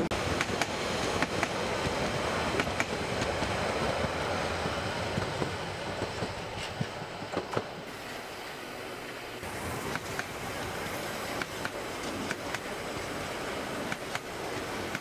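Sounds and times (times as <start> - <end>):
steam train rumble and hiss: 0.0 - 15.0.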